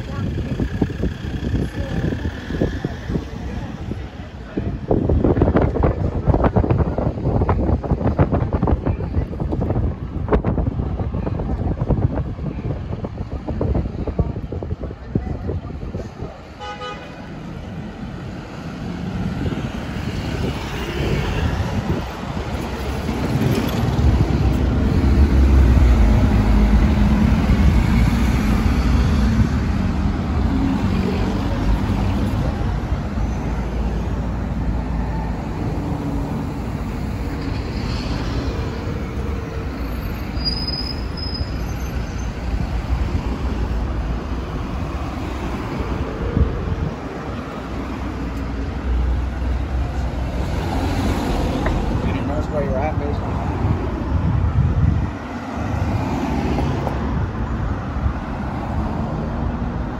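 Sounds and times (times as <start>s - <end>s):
city road traffic: 0.0s - 59.9s.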